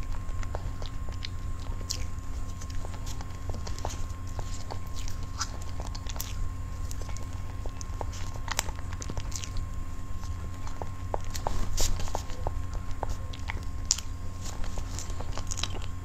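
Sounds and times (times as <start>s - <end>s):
close chewing: 0.0s - 16.0s
low steady hum: 0.0s - 16.0s
wet mouth clicks: 0.0s - 16.0s.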